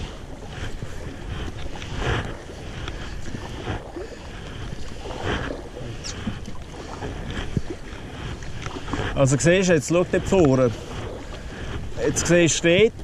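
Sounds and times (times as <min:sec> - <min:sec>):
paddles splashing in water: 0:00.0 - 0:13.0
rush of moving water: 0:00.0 - 0:13.0
wind buffeting microphone: 0:00.0 - 0:13.0.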